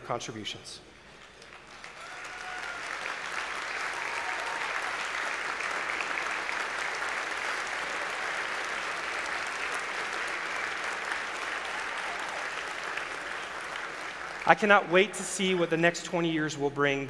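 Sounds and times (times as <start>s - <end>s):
large audience applauding: 1.1s - 15.7s.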